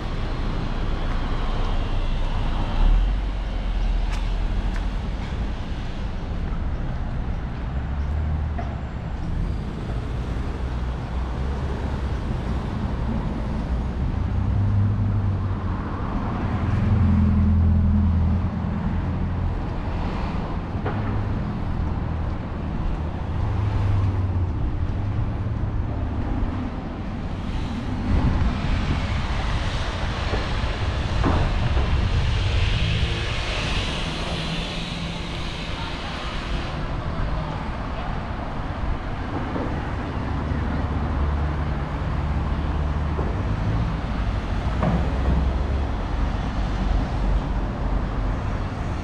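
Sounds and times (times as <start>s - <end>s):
cars passing: 0.0s - 49.0s.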